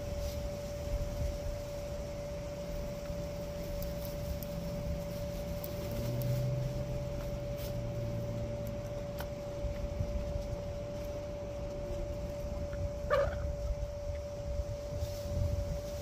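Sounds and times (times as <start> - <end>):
low drone: 0.0 - 16.0
steady mechanical hum: 0.0 - 16.0.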